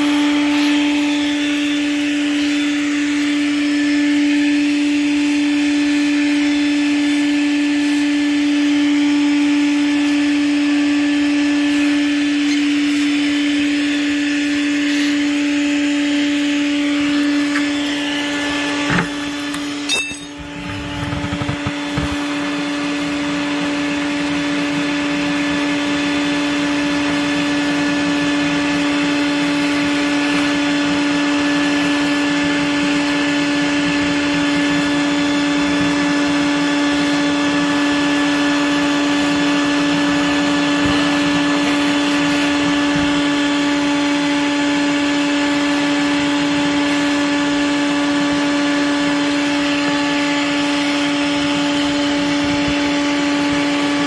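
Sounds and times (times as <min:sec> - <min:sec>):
vacuum motor hum: 0:00.0 - 0:54.0.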